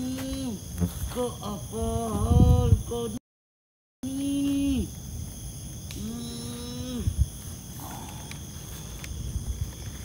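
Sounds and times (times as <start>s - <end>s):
insects chirping: 0.0s - 3.2s, 4.0s - 10.0s.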